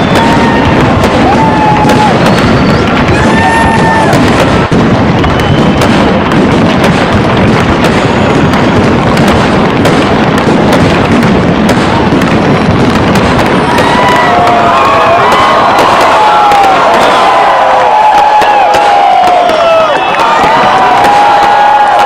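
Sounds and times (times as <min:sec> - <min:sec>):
fireworks crackling and banging: 0:00.0 - 0:22.0
whistling fireworks: 0:00.0 - 0:22.0.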